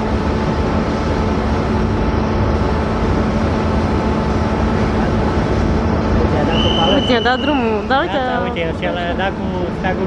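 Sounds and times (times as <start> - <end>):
faint hum: 0.0 - 10.0
locomotive cooling blowers whirring: 0.0 - 10.0.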